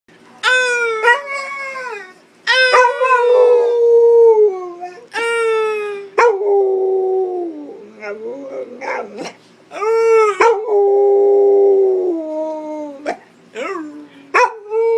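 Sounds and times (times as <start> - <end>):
dog howling: 0.4 - 14.9.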